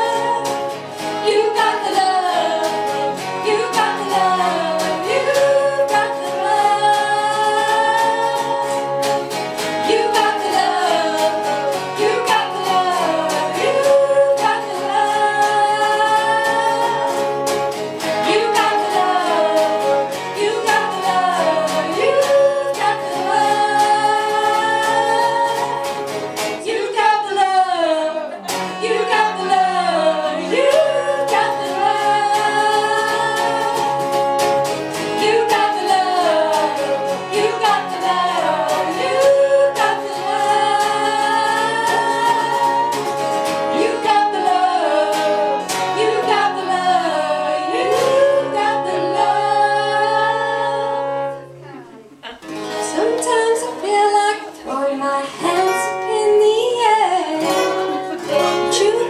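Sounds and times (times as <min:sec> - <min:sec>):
acoustic guitar strumming: 0:00.0 - 0:59.0
voices singing together: 0:00.0 - 0:59.0.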